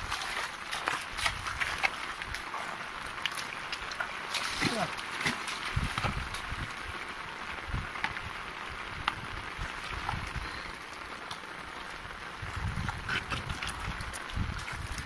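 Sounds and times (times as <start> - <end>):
light rain on flooded ground: 0.0 - 15.0.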